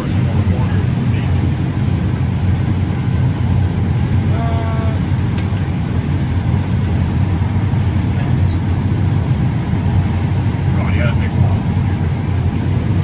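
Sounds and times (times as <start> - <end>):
combine engine and threshing drone: 0.0 - 13.0.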